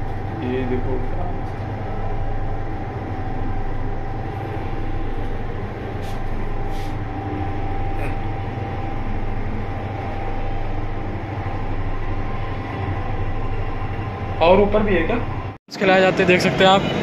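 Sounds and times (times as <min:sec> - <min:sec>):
lift low hum: 0:00.0 - 0:15.6
faint steady whine: 0:00.0 - 0:16.1.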